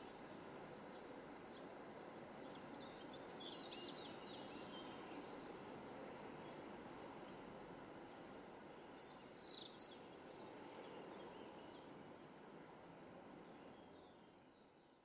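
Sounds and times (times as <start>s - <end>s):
faint outdoor hiss: 0.0s - 14.9s.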